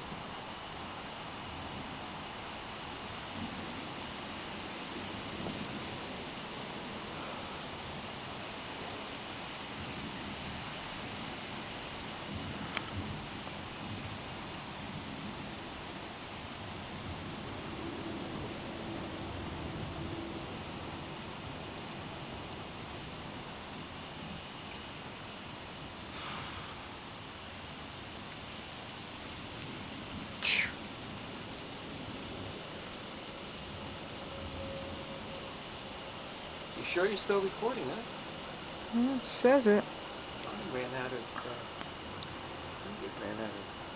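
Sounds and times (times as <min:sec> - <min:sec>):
insect chorus trilling: 0:00.0 - 0:43.9.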